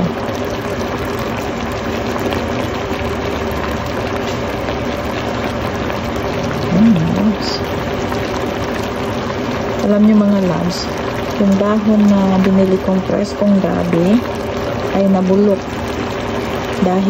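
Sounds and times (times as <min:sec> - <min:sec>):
stew bubbling in a pot: 0:00.0 - 0:17.0.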